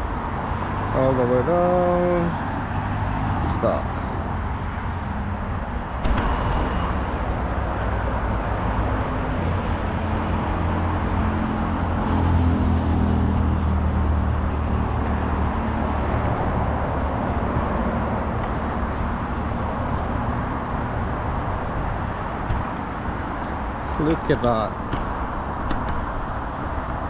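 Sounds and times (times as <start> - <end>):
road traffic rumble: 0.0 - 27.0
vehicle passing: 1.7 - 27.0.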